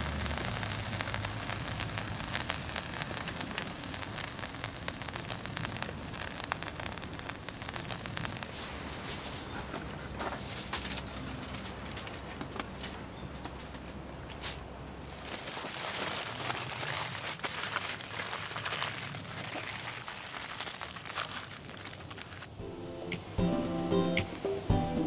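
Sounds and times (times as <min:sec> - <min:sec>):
aluminium foil crinkling: 0:00.0 - 0:22.6
high insect buzz: 0:00.1 - 0:24.7.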